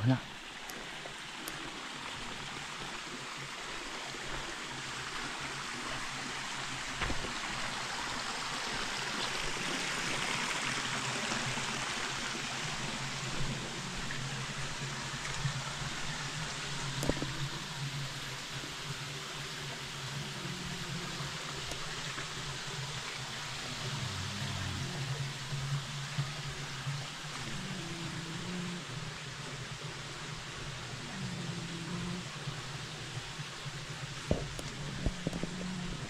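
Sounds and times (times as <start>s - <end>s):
stream water rushing: 0.0s - 36.0s.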